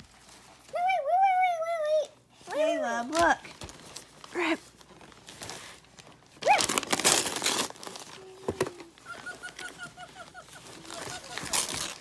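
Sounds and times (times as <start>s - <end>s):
wrapping paper crumpling and tearing: 0.0s - 1.7s, 2.4s - 12.0s.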